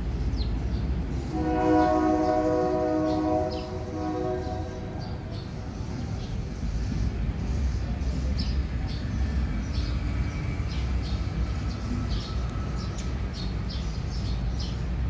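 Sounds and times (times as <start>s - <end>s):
small birds chirping: 0.1s - 1.3s, 3.1s - 15.0s.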